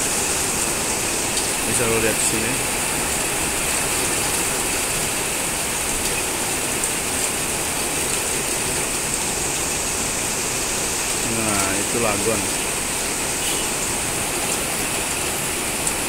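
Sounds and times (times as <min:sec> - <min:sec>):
heavy rain on metal roofs: 0:00.0 - 0:16.0.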